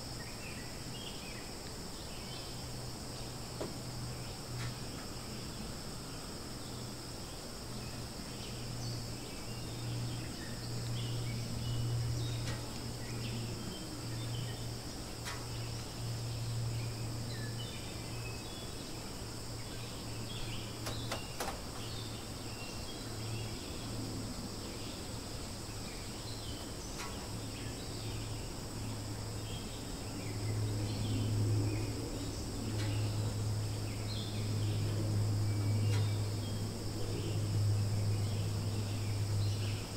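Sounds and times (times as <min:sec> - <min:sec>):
insects chirring: 0:00.0 - 0:39.9
short insect chirps: 0:00.0 - 0:39.9.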